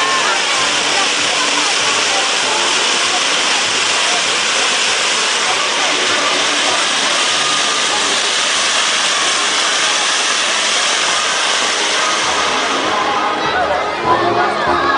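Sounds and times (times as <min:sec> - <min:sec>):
fireworks hissing: 0:00.0 - 0:14.1.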